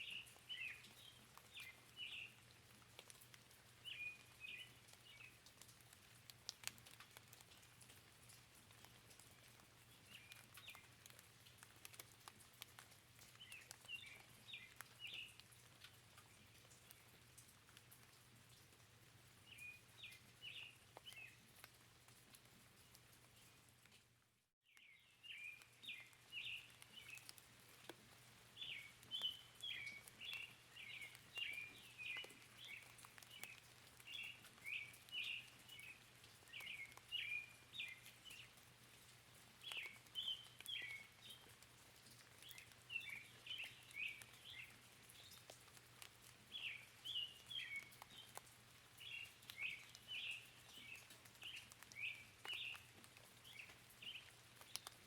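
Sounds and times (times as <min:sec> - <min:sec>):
songbirds chirping: 0:00.0 - 0:23.7, 0:24.6 - 0:55.0
faint steady background hiss: 0:00.0 - 0:55.0.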